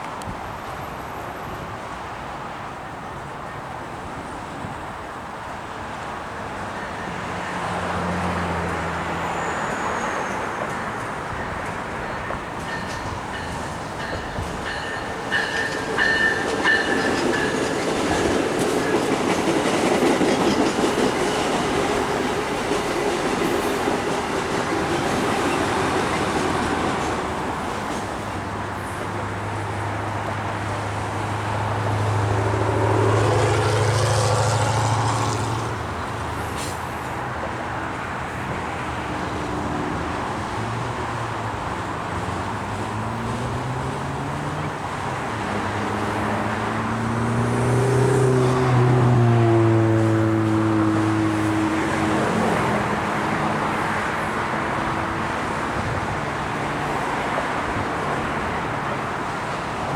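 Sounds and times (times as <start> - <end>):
train rumbling past: 5.4 - 59.9.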